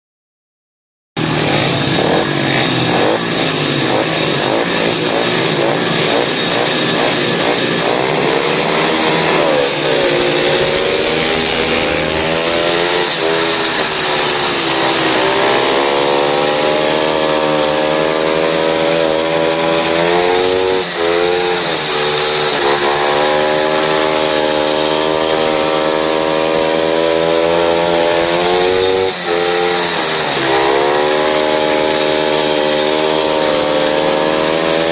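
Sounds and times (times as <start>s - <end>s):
motorcycle engine revving hard: 1.2s - 34.9s.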